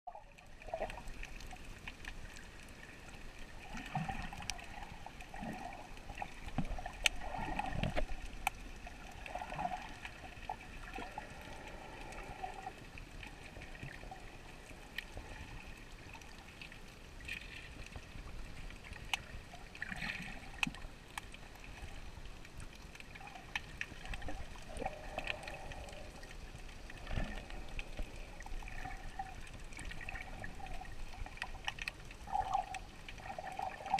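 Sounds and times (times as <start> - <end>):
underwater gurgling wash: 0.1 - 33.9.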